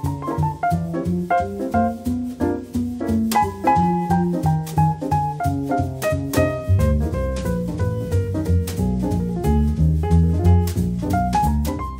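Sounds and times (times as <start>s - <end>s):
drum kit with cymbals: 0.0s - 11.9s
walking bass line: 0.0s - 11.9s.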